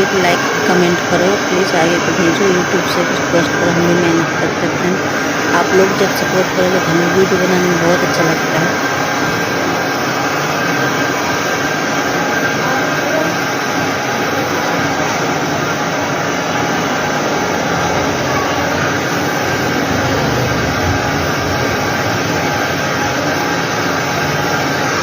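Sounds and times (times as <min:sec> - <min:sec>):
machine running: 0:00.0 - 0:25.0.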